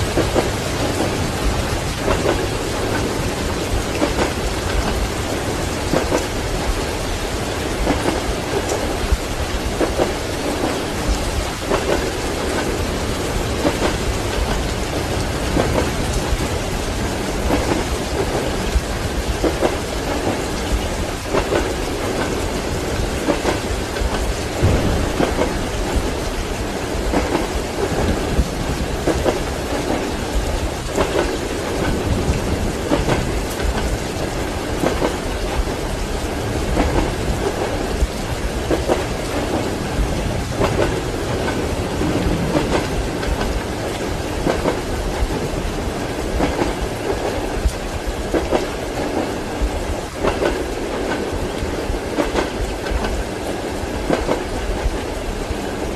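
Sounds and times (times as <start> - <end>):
low train rumble: 0.0 - 55.9
steady rain: 0.0 - 55.9
train wheels clacking on rails: 0.0 - 55.9.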